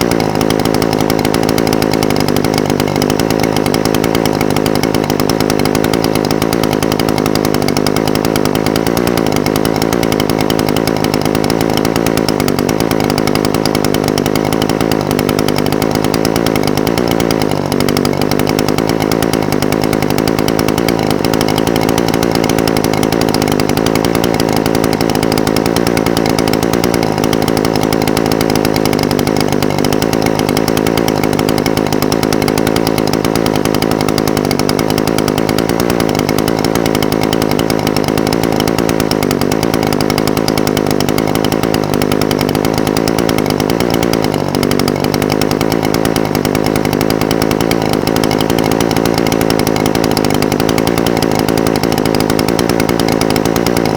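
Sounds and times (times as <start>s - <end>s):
brush cutter engine idling: 0.0s - 53.9s.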